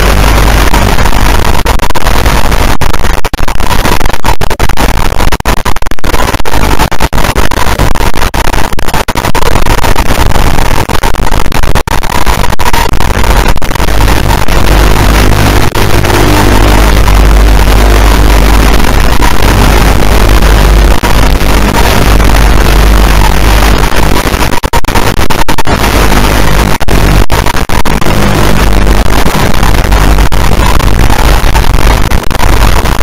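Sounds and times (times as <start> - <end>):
loud static hiss: 0.0 - 33.0.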